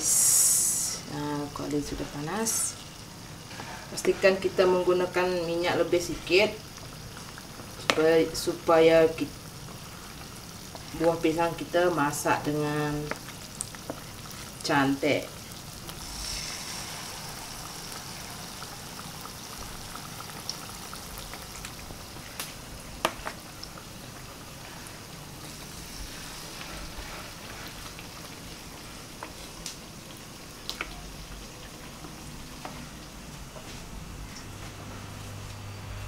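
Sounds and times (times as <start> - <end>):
batter sizzling in hot oil: 0.0 - 35.8.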